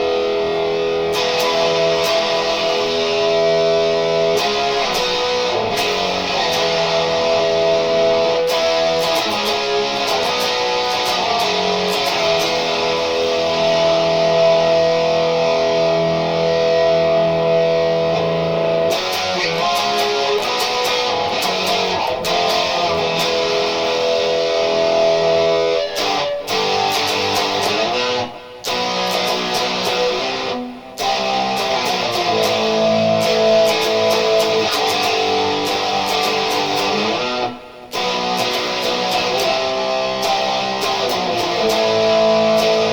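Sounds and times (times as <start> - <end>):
electric guitar chords through amp: 0.0 - 42.9.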